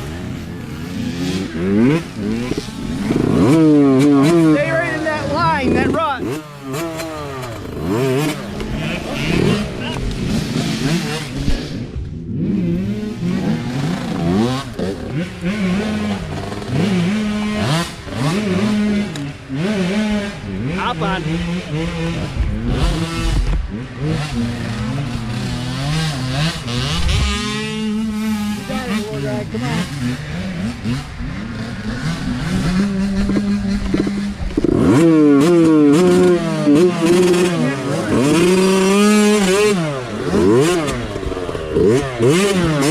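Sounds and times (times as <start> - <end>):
mini bike engines revving: 0.0 - 42.9.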